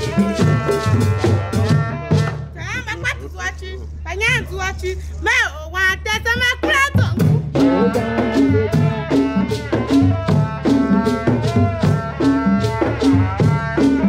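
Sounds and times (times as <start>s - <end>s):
drums: 0.0s - 14.0s.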